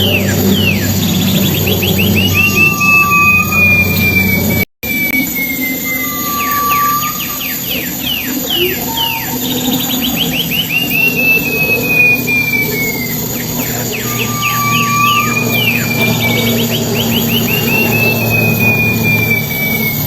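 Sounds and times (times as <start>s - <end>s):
songbird whistling: 0.0s - 20.0s.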